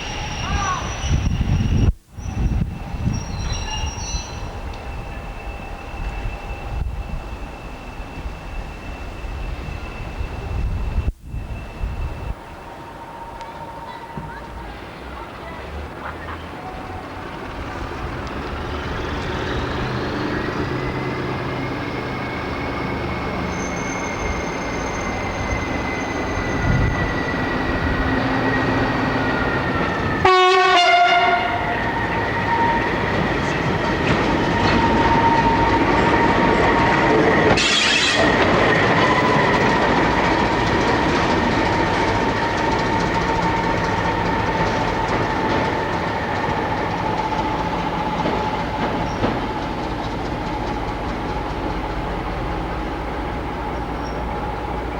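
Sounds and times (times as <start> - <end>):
diesel train running: 0.0 - 54.9.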